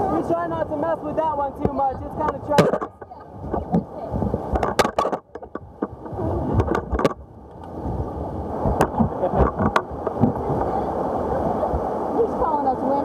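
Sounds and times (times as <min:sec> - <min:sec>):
paddles splashing in water: 0:00.0 - 0:13.0
whitewater rushing: 0:00.0 - 0:13.0.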